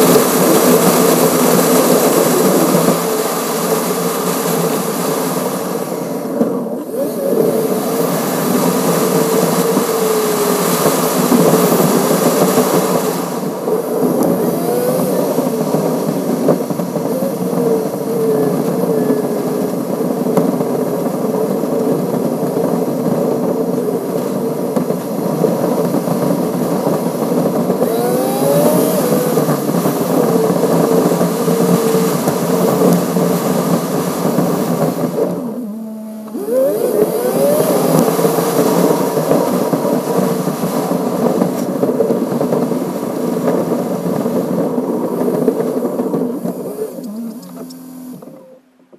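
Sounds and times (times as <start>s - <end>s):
sped-up car driving drone: 0.0s - 42.6s, 43.2s - 48.9s.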